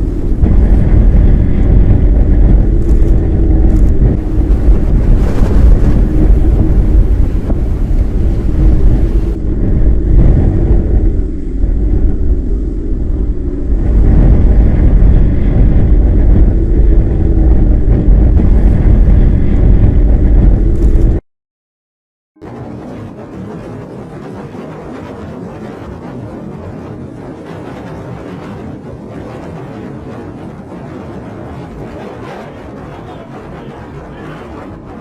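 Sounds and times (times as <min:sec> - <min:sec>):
storm wind roaring on microphone: 0:00.0 - 0:21.2, 0:22.4 - 0:35.0.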